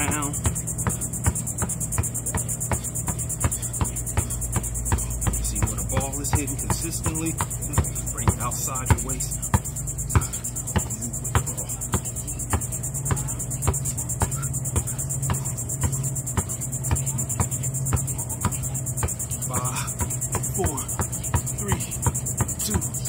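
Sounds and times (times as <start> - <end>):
basketball bouncing on concrete: 0.0 - 23.0
insects droning: 0.0 - 23.0.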